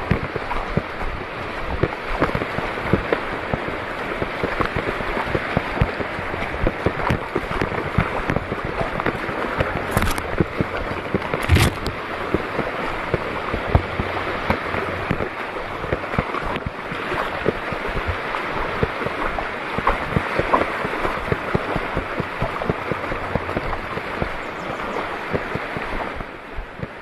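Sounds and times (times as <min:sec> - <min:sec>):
water sloshing and splashing: 0:00.0 - 0:27.0
wind buffeting microphone: 0:00.0 - 0:27.0.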